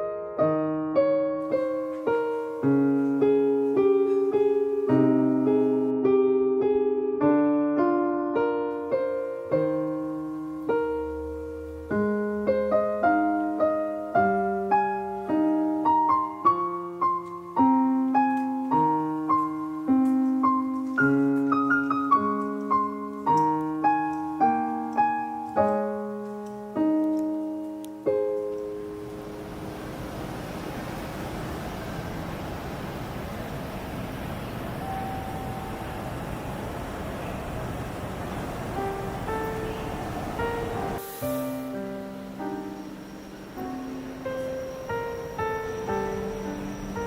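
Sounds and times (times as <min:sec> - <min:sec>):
slow gentle piano melody: 0:00.0 - 0:47.0.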